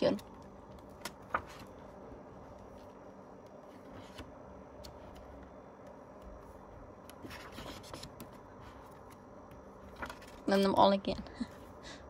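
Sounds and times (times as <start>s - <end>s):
paper pages rustling: 0.1s - 5.4s, 6.3s - 10.7s.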